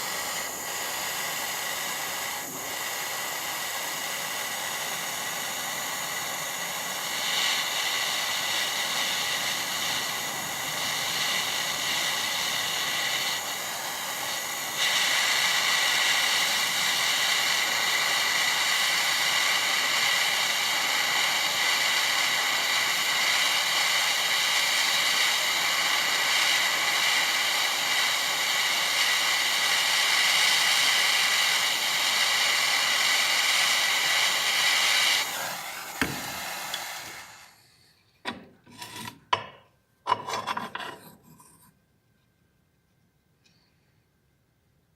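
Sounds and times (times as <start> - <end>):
power tool motor whining: 0.0 - 37.6.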